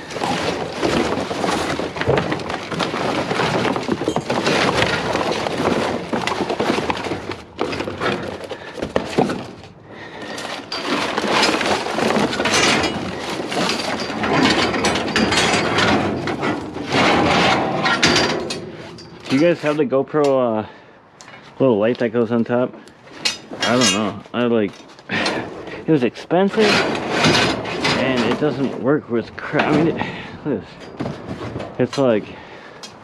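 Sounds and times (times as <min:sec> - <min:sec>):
scrap debris clattering: 0:00.0 - 0:33.0.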